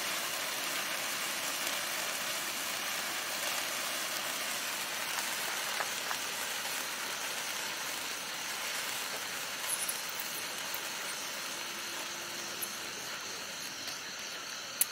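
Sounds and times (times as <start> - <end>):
sparklers fizzing: 0.0 - 14.9
sparks crackling: 0.0 - 14.9.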